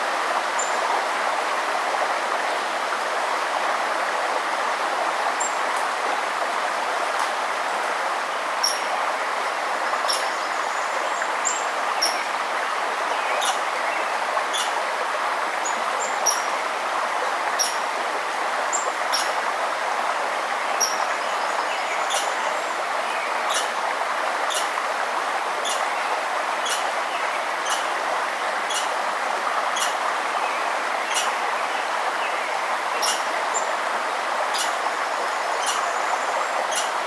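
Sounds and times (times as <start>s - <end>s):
flowing stream water: 0.0s - 37.0s.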